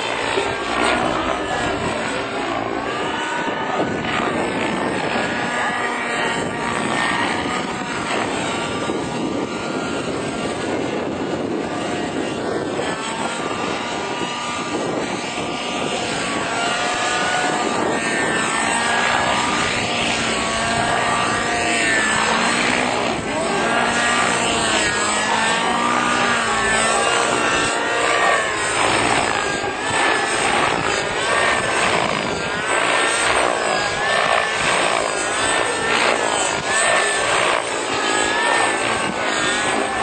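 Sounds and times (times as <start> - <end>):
model helicopter engine whining: 0.0 - 40.0.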